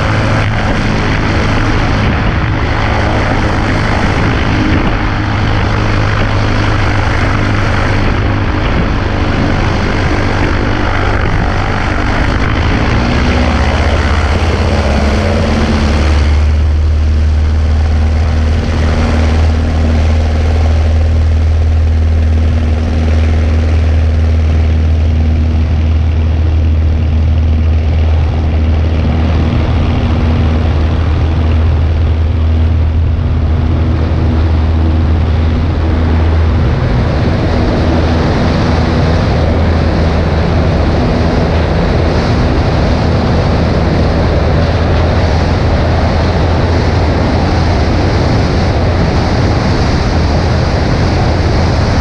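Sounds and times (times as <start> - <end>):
airplane engine and propeller droning: 0.0 - 52.0.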